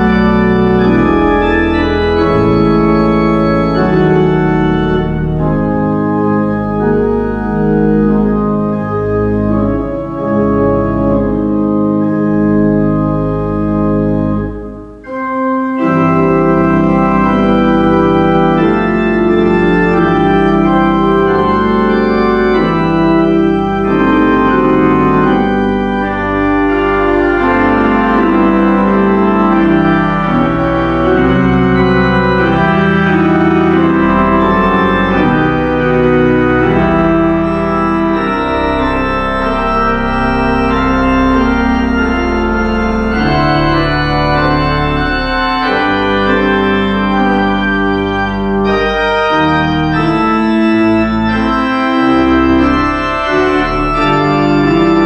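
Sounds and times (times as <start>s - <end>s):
church organ playing chords: 0.0s - 55.0s.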